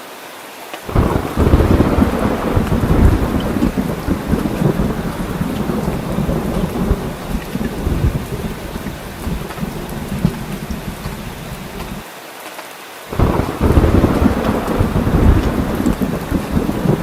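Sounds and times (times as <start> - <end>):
steady rain: 0.0 - 17.0
low thunder rumble: 0.9 - 12.0, 13.1 - 17.0.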